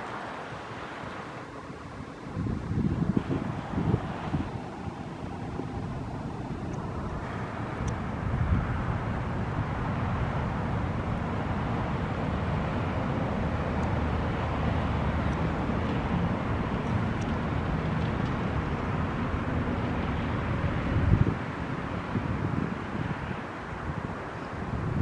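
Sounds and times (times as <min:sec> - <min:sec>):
road traffic: 0:00.0 - 0:25.0
wind on microphone: 0:00.0 - 0:25.0.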